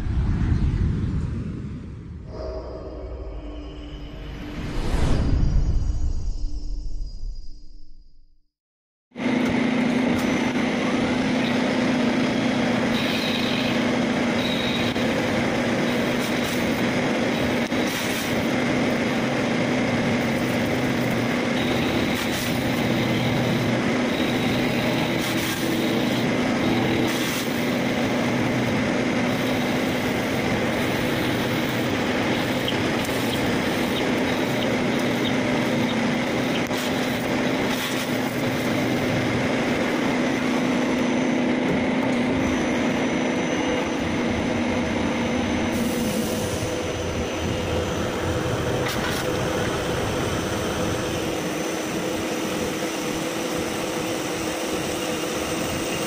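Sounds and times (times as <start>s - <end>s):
machine hum: 9.2s - 56.0s.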